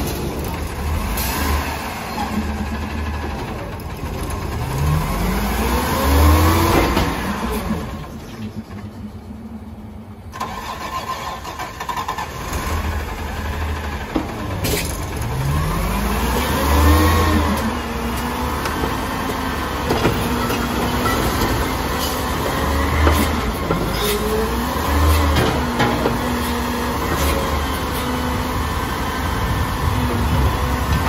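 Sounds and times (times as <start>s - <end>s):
diesel engine revving: 0.2s - 9.6s, 10.2s - 31.0s.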